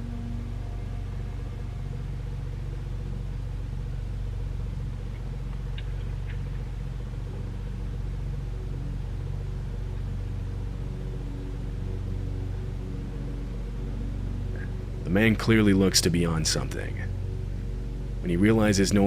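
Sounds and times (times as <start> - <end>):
low droning rumble: 0.0 - 19.0.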